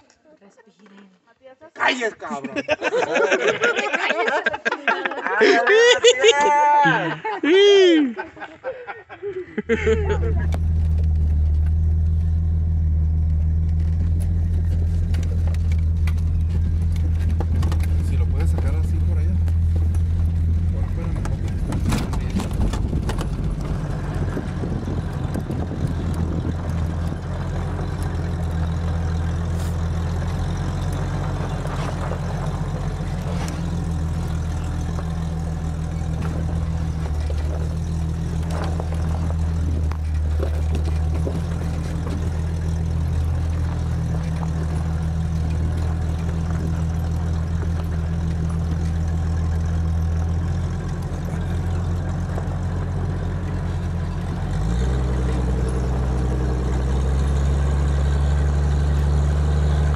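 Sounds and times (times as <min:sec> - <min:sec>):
vehicle engine droning: 0:09.6 - 0:59.9.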